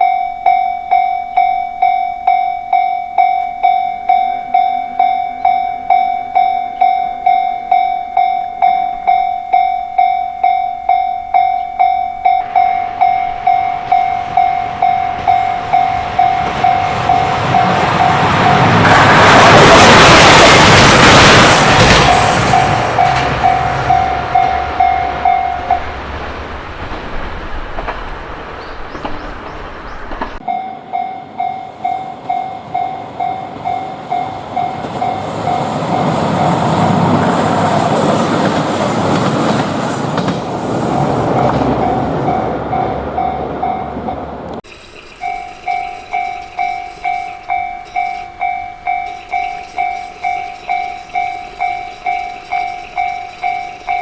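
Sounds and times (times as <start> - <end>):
level crossing warning bell: 0.0 - 26.5, 30.4 - 54.0
train rumble and wheel clatter: 0.0 - 54.0.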